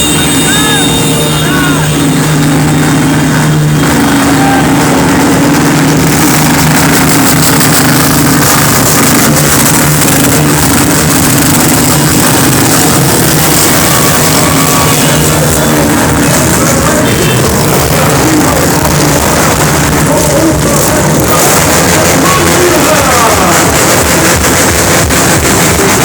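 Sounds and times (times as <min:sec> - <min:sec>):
many motorcycle engines running: 0:00.0 - 0:26.0.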